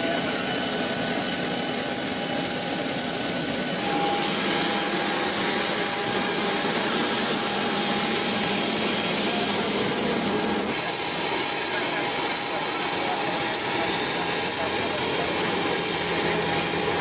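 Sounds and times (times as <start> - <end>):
turbine engine rush with high whine: 0.0 - 17.0.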